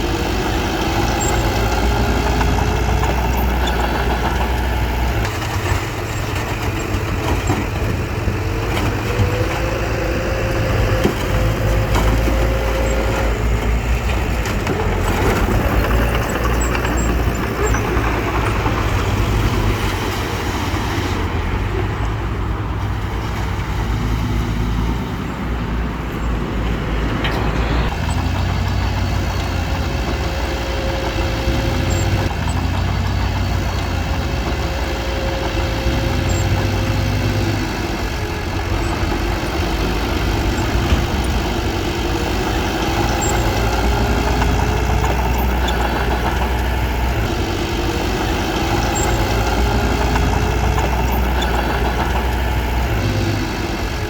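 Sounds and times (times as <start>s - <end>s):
heavy machinery diesel engine running: 0.0s - 54.0s.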